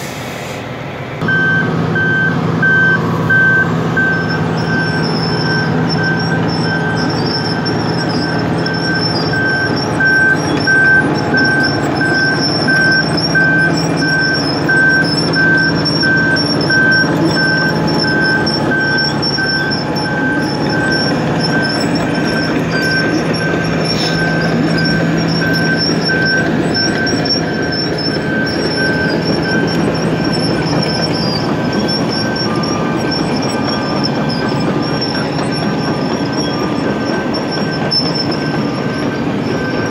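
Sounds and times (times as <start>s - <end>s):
back-up alarm beeping: 1.2s - 39.9s
milling machine grinding asphalt: 1.3s - 39.9s.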